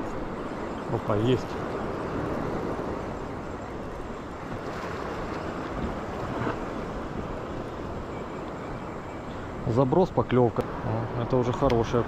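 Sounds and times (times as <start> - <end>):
wind buffeting microphone: 0.0 - 10.8
sea surf: 0.0 - 12.0.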